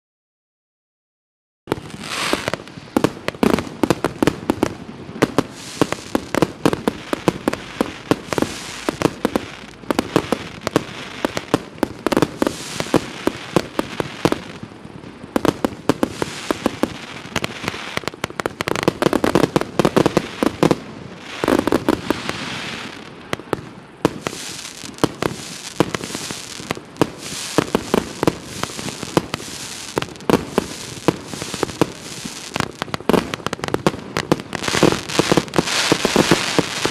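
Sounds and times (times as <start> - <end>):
fireworks shots and bursting shells: 1.7 - 36.9.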